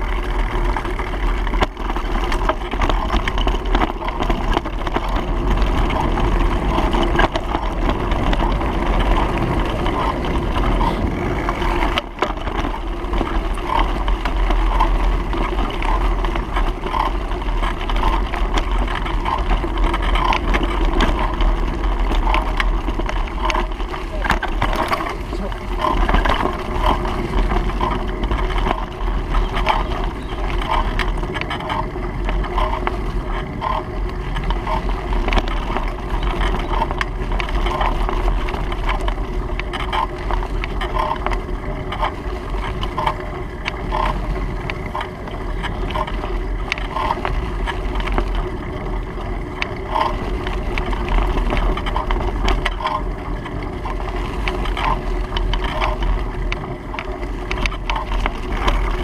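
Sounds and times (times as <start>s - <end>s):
bicycle road noise: 0.0s - 59.0s.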